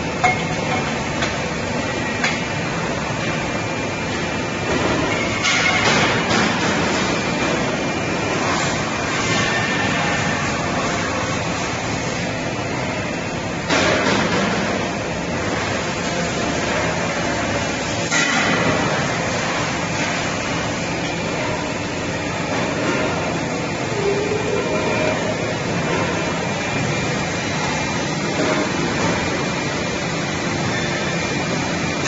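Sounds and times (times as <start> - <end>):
factory machinery running: 0.0 - 32.0.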